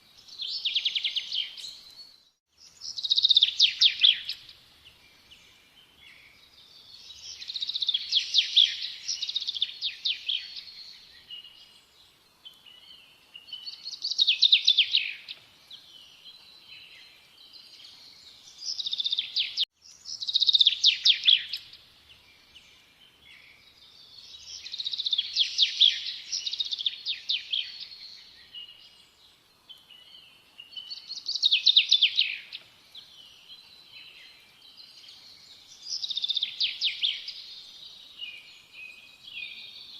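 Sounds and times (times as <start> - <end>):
bird singing trilled phrases: 0.2 - 39.9.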